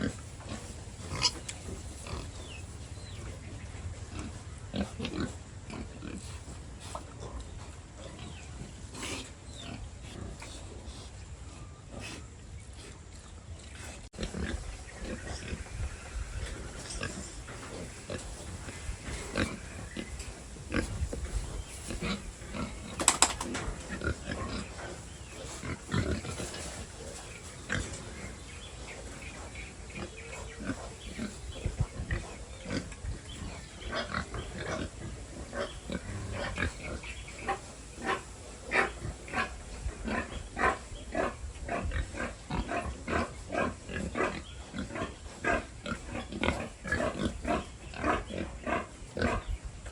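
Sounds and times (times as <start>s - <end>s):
pigs grunting: 0.0s - 49.9s.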